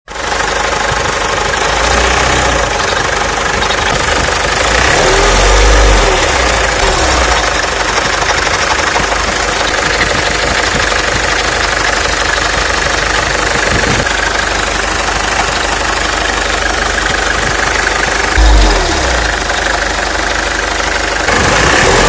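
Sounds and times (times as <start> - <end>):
diesel engine idling with knocking: 0.1 - 22.0.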